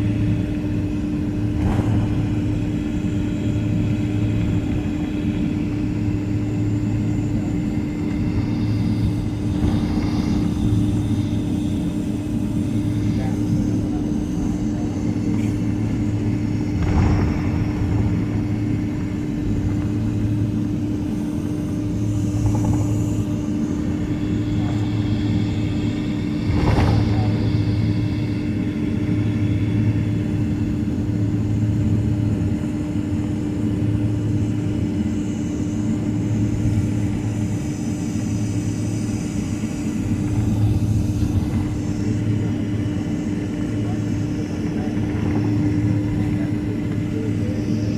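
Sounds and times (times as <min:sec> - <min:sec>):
aircraft cabin engine hum: 0:00.0 - 0:47.9.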